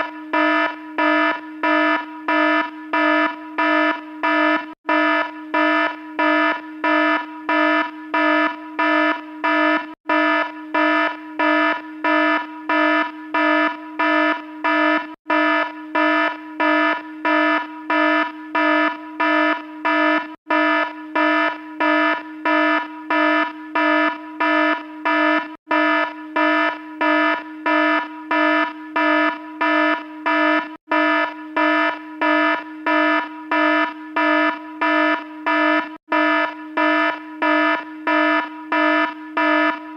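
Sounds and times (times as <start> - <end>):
electronic alarm beeping: 0.0 - 39.9.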